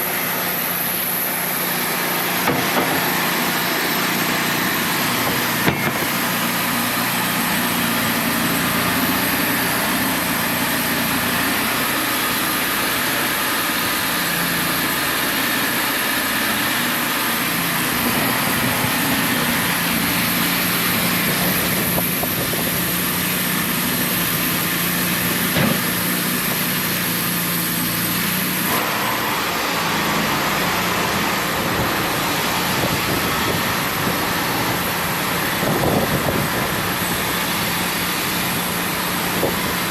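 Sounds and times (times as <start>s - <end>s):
band sawmill engine running: 0.0s - 39.9s.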